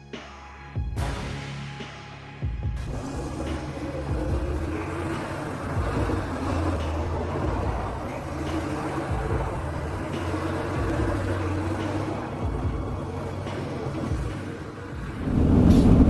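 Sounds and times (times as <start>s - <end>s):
road and tyre noise: 0.0s - 16.0s
truck engine droning: 0.0s - 16.0s.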